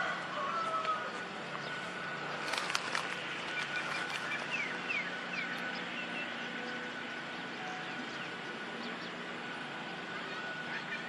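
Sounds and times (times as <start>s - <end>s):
low background hum: 0.0s - 11.0s
thin high tone: 0.0s - 11.0s
small birds chirping: 0.5s - 11.0s.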